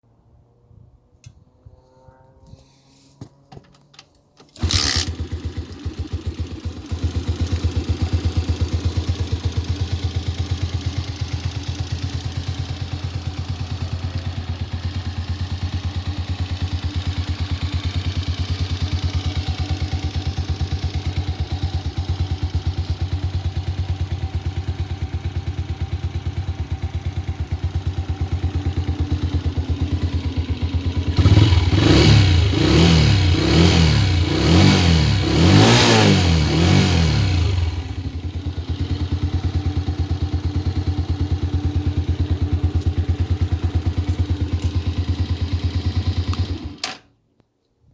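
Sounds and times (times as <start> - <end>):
motorcycle engine revving: 0.4 - 2.6, 3.2 - 47.0
motorcycle engine starting and idling: 3.2 - 47.2.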